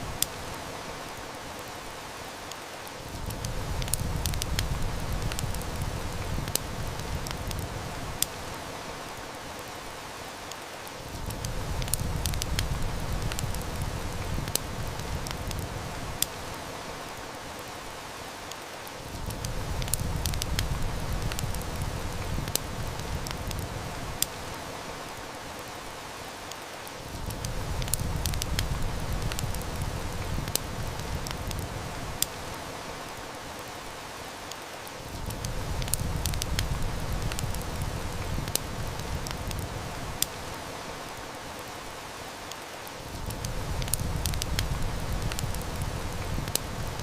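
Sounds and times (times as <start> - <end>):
heavy rain hissing: 0.0 - 47.0
wood fire crackling: 0.0 - 47.0.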